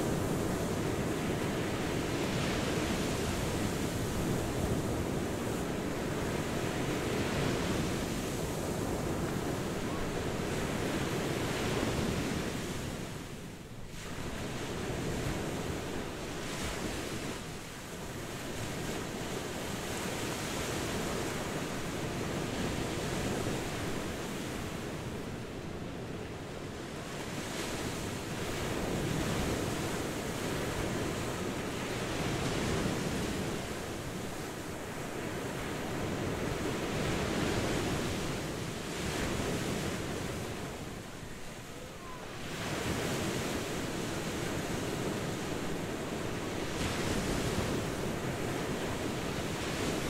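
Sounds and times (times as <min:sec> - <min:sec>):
wind: 0:00.0 - 0:50.0.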